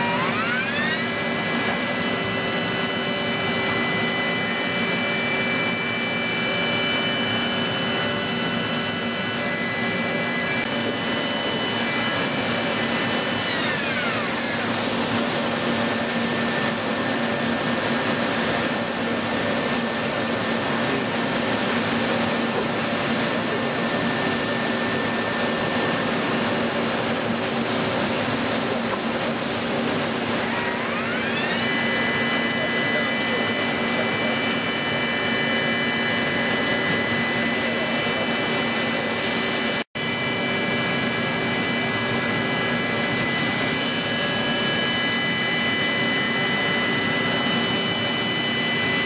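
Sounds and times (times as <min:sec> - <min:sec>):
machine high whine: 0:00.0 - 0:49.0.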